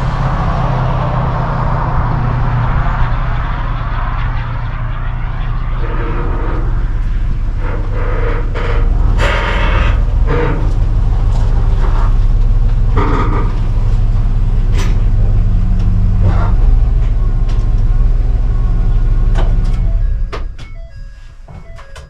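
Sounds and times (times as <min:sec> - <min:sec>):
heavy engine rumbling: 0:00.0 - 0:22.0.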